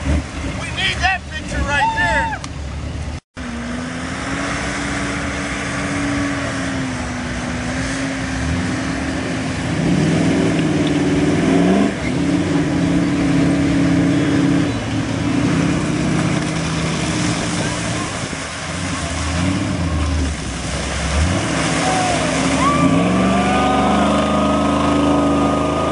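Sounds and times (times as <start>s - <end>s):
truck engine running and revving: 0.0s - 1.5s, 2.6s - 25.9s.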